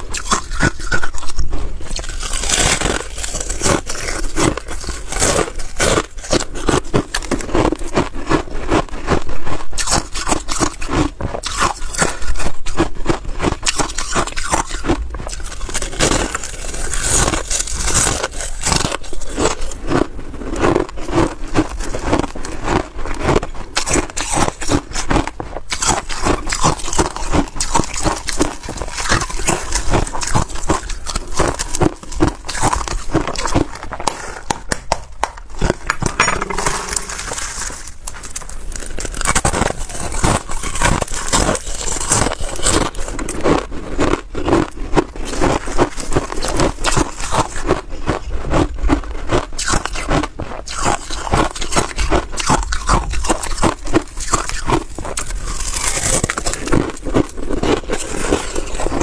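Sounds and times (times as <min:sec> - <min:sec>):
ice crunching being chewed: 0:00.0 - 0:59.0.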